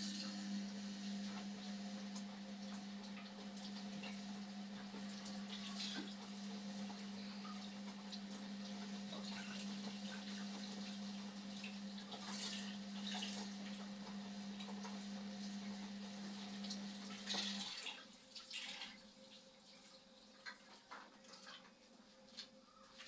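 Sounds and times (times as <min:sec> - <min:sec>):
washing machine hum: 0:00.0 - 0:23.0
water splashing in washing machine: 0:00.0 - 0:23.0.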